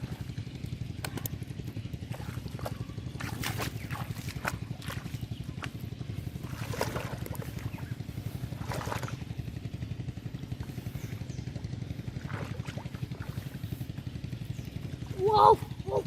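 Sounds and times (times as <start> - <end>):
small engine humming: 0.0 - 16.0
water splashing and sloshing: 0.0 - 16.0.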